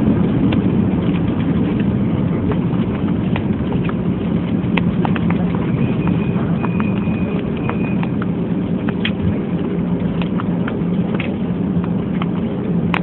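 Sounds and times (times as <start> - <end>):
engine and airflow drone: 0.0 - 13.0.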